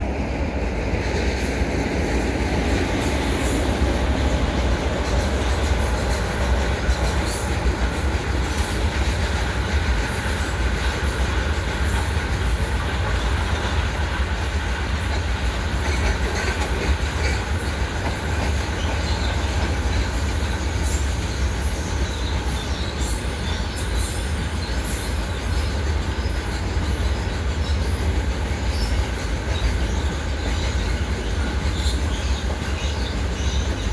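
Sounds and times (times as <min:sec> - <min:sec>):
train rumbling past: 0:00.0 - 0:33.9
wheels clicking and squealing: 0:02.0 - 0:33.9.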